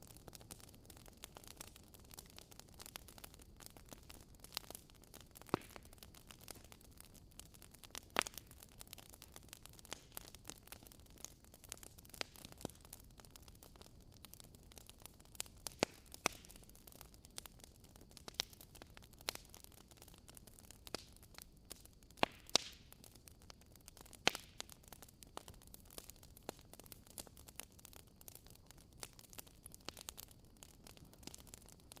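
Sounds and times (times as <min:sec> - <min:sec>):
wood fire crackling: 0:00.0 - 0:32.0
fire hissing: 0:00.1 - 0:32.0.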